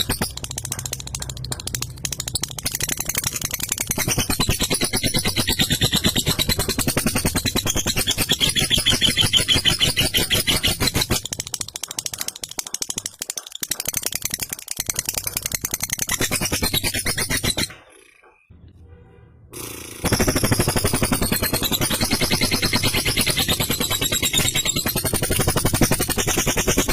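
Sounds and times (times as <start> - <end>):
lovebird rattling chatter: 0.0 - 18.5, 19.9 - 26.9.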